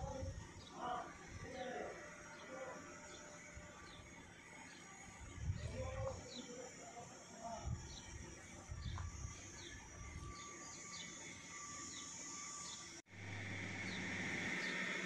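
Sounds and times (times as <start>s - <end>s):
birds chirping: 0.5s - 6.8s, 7.8s - 15.0s.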